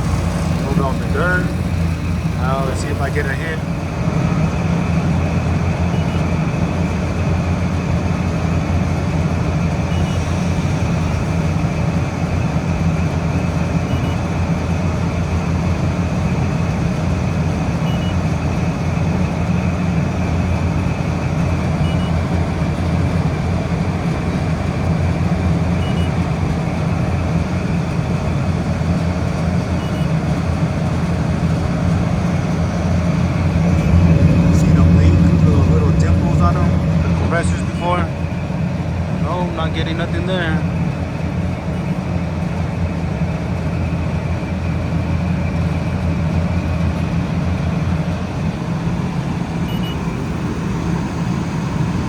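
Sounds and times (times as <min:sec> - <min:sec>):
condensing unit humming: 0:00.0 - 0:52.0.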